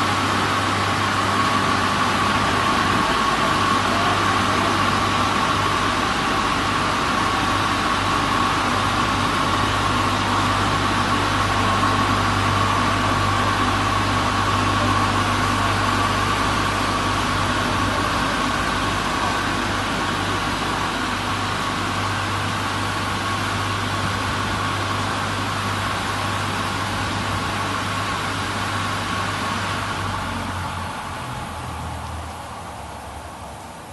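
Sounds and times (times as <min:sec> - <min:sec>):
car wash machine running: 0:00.0 - 0:33.9
continuous hiss: 0:00.0 - 0:33.9
low motor hum with whine: 0:00.0 - 0:33.9.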